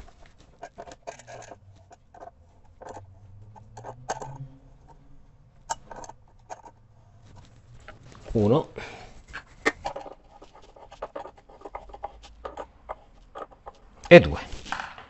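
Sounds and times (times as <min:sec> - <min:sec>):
plastic threads clicking and scraping: 0:00.0 - 0:08.6, 0:09.2 - 0:15.0.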